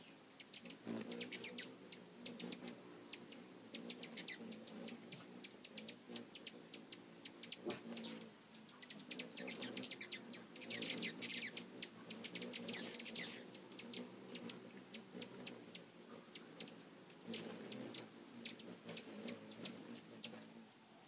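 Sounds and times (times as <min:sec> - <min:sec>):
hummingbird chip notes: 0:00.0 - 0:20.8
hummingbirds chattering squeals: 0:00.0 - 0:20.8.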